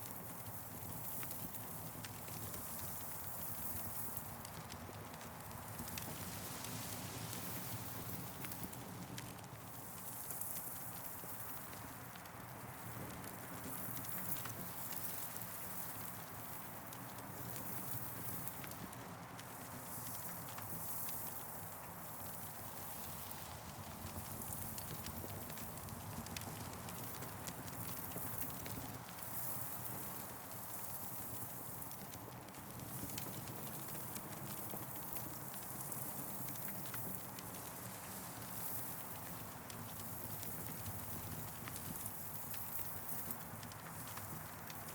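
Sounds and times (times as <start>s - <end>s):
steady fire hiss: 0.4s - 8.8s, 9.6s - 44.9s.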